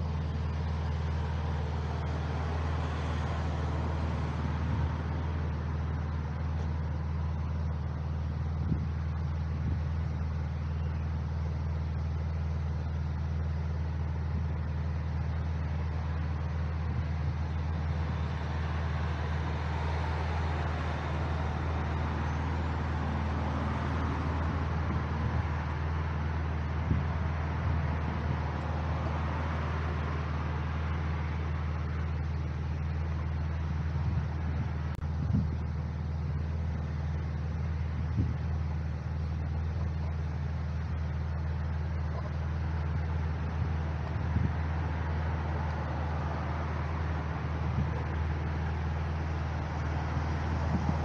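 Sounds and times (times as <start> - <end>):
cars idling: 0.0 - 51.0.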